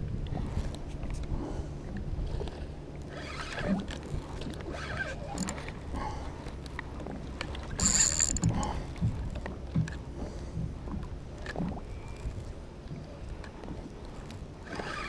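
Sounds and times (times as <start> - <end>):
water and wind against hull: 0.0 - 15.0.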